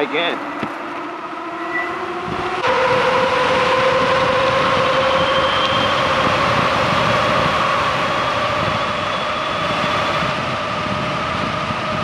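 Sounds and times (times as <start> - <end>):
rushing wind noise: 0.0 - 12.0
electric motor whine: 0.4 - 12.0.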